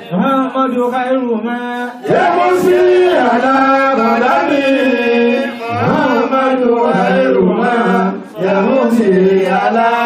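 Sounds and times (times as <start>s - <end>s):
men chanting over loudspeaker: 0.0s - 10.0s.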